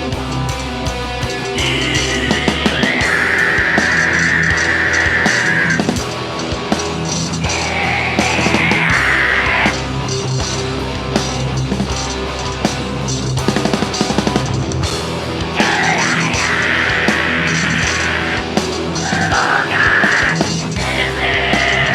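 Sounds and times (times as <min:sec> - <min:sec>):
heavy metal band playing live: 0:00.0 - 0:21.9.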